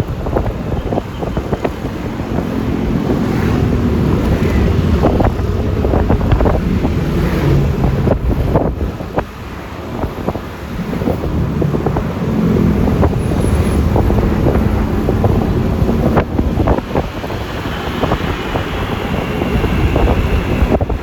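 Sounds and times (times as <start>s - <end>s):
scooter engine and road noise: 0.0s - 21.0s
wind buffeting microphone: 0.0s - 21.0s.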